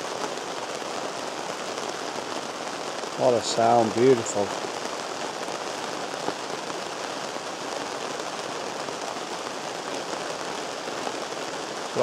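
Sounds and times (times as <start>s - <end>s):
rain on a canvas tent: 0.0s - 12.0s.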